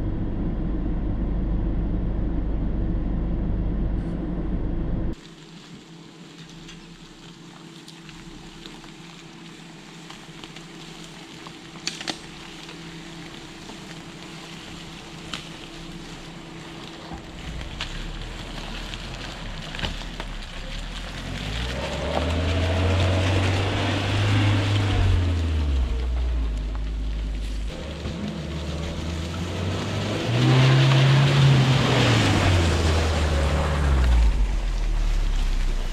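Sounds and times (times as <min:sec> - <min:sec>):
car engine at low speed: 0:00.0 - 0:35.9.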